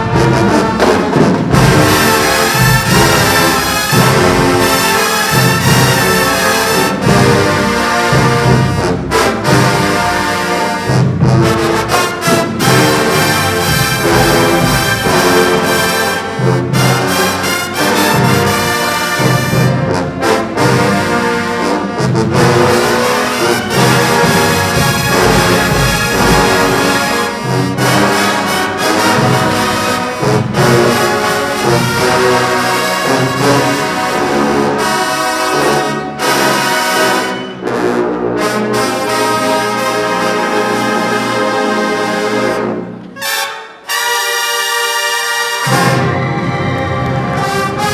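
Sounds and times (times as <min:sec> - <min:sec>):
brass section playing loudly: 0:00.0 - 0:47.9.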